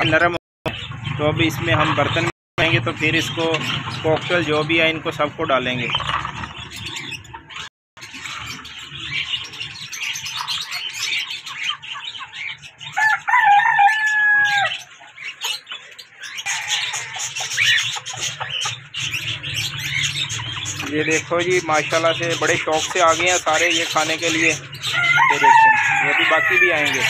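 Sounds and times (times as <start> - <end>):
caged birds chirping and chattering: 0.0 - 27.0.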